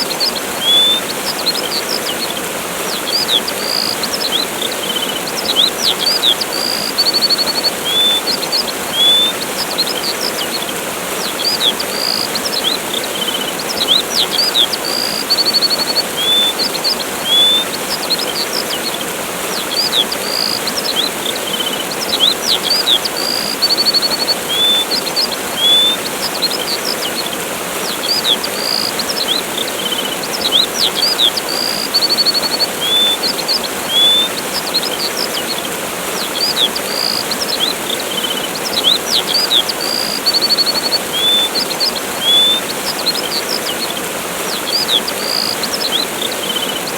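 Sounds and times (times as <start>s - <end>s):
songbirds chirping: 0.0s - 46.9s
waterfall rushing: 0.0s - 46.9s.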